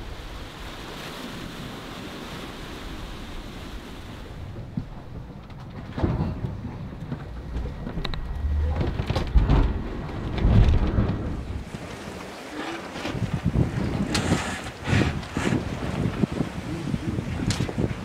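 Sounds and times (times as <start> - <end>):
hull thudding and rumbling: 0.0 - 18.0
rushing sea water: 0.0 - 18.0
wind: 0.0 - 18.0.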